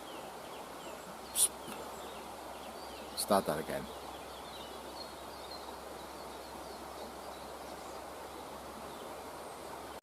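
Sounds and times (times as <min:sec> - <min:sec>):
faint bird chirps: 0:00.0 - 0:10.0
steady outdoor hiss: 0:00.0 - 0:10.0.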